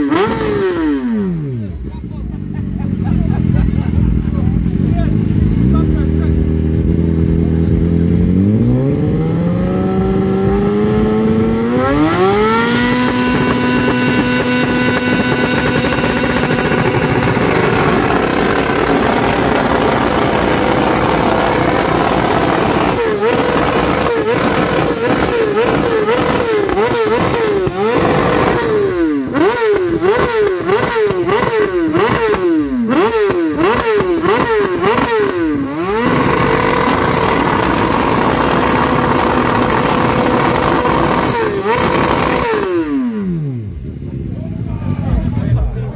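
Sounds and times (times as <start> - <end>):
motorcycle engine revving: 0.0 - 45.9
exhaust crackling and popping: 2.0 - 43.3.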